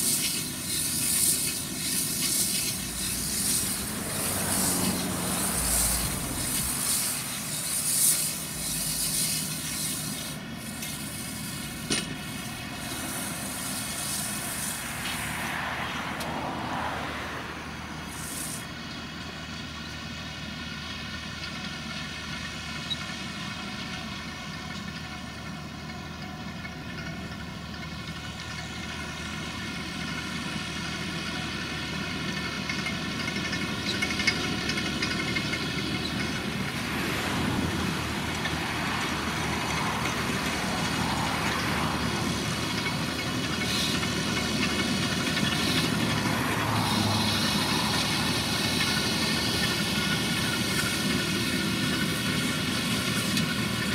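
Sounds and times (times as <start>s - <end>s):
tractor and baler running with whine: 0.0s - 53.9s.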